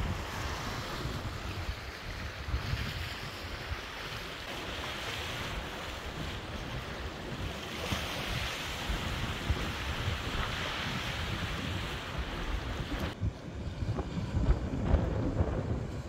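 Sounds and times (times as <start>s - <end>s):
small sea waves: 0.0s - 16.0s
wind on microphone: 0.0s - 16.0s.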